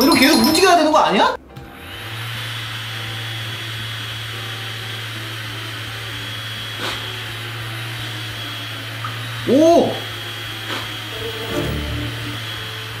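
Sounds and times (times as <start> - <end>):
blower fan humming and whining: 1.4 - 13.0.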